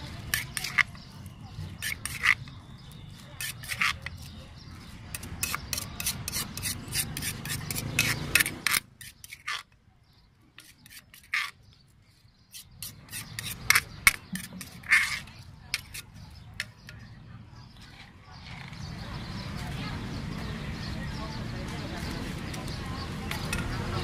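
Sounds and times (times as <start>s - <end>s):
metal spoon scraping mortar: 0.0s - 19.0s, 22.0s - 24.0s.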